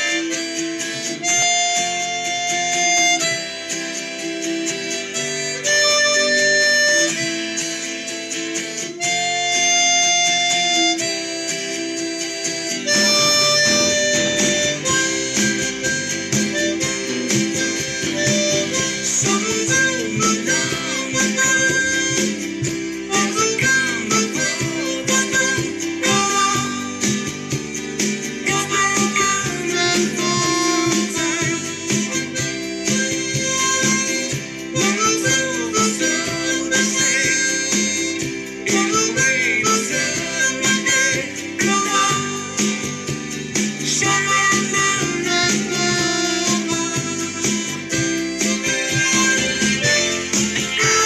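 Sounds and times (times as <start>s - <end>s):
backing track with guitar: 0.0s - 51.0s
harmonica melody: 0.0s - 51.0s.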